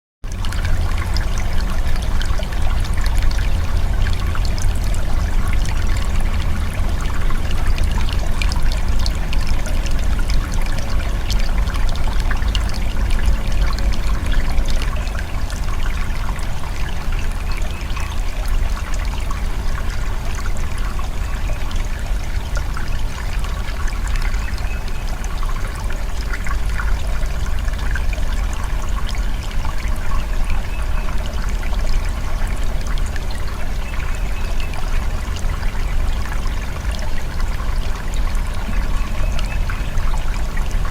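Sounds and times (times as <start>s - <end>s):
water trickling and splashing: 0.2s - 40.9s
deep continuous rumble: 0.3s - 40.9s.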